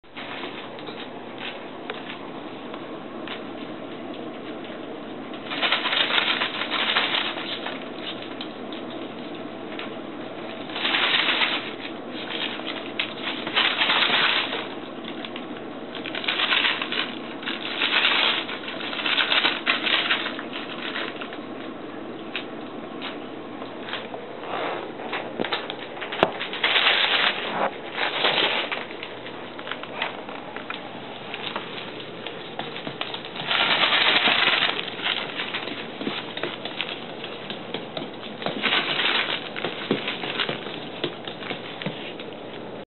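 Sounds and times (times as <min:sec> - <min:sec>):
scuffling and flapping: 0:03.2 - 0:42.7.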